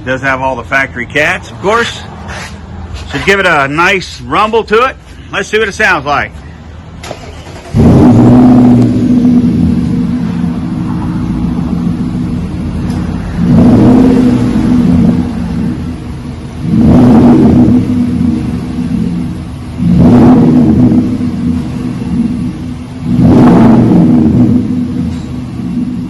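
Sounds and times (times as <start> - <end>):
truck engine idling and revving: 0.0 - 26.0.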